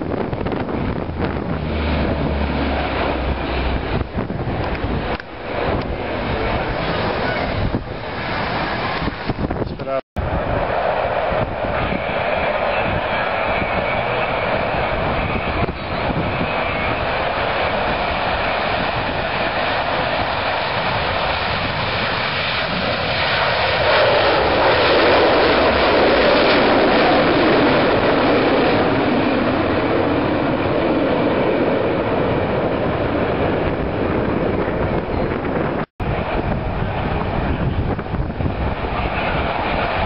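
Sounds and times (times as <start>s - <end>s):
jet engines roaring past: 0.0s - 40.0s.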